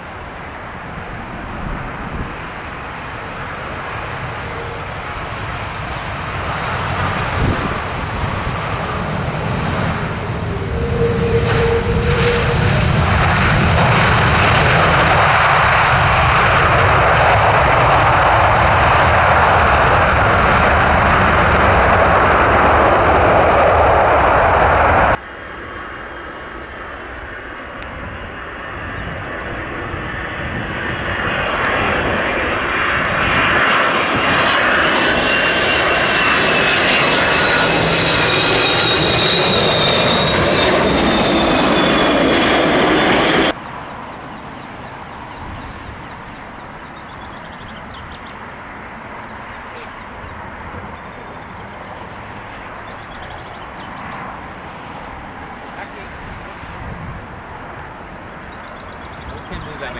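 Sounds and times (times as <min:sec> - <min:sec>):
jet airliner engines passing: 0:00.0 - 0:59.9.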